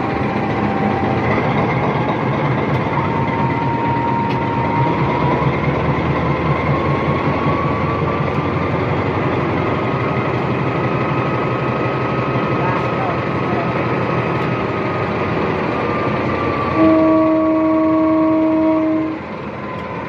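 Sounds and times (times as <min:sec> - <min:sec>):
locomotive diesel engine rumbling: 0:00.0 - 0:20.0.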